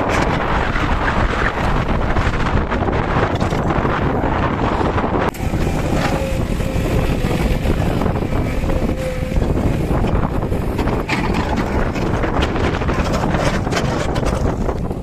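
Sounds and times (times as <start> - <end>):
wind buffeting microphone: 0.0 - 15.0
diesel engine running: 1.8 - 15.0.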